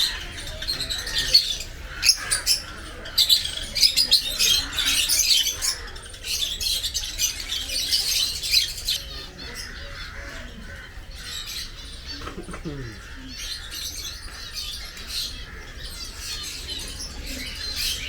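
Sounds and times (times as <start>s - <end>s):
flock of birds squawking: 0.0s - 18.0s.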